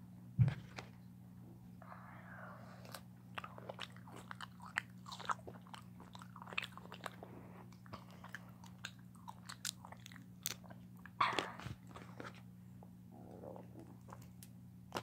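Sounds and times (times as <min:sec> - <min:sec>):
child chewing with mouth smacking: 0:02.7 - 0:15.0.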